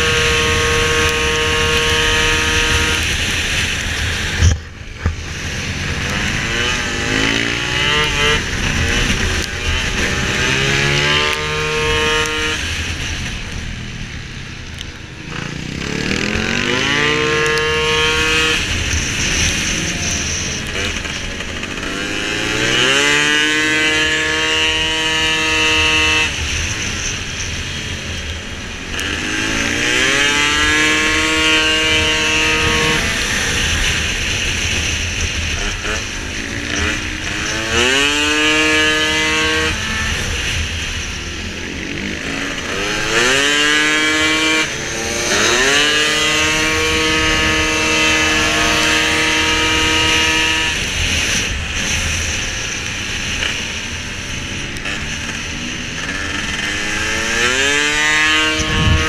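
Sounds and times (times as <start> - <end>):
scooter engine revving: 0.0 - 59.0.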